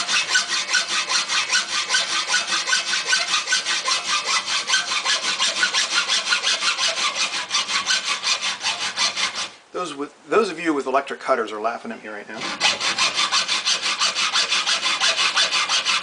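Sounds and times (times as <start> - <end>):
hacksaw cutting metal: 0.0 - 9.6, 12.4 - 16.0.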